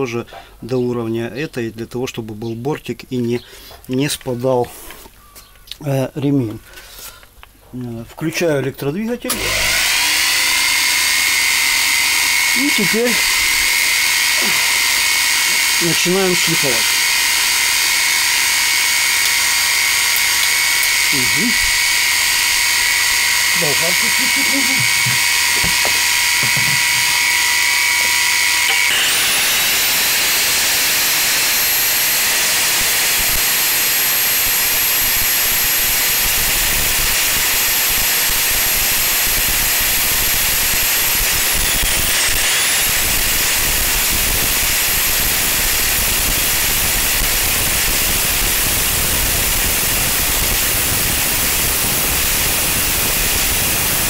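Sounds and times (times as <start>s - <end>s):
angle grinder grinding metal: 9.3s - 54.0s
lawnmower motor whining: 9.3s - 54.0s.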